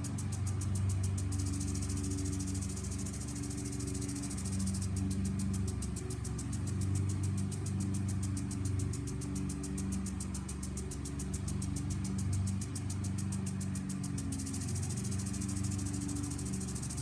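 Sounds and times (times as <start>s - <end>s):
lawn mower engine running: 0.0s - 17.0s
lawn sprinkler ticking: 0.0s - 17.0s.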